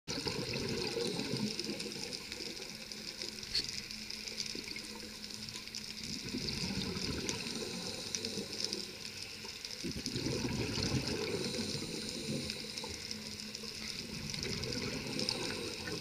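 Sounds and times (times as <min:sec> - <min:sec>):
underwater bubbles rumbling: 0:00.1 - 0:03.2, 0:04.5 - 0:16.0.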